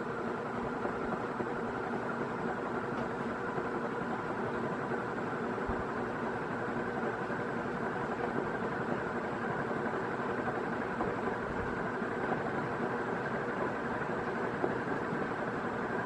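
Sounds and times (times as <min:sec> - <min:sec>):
ceiling fan motor hum: 0:00.0 - 0:16.0.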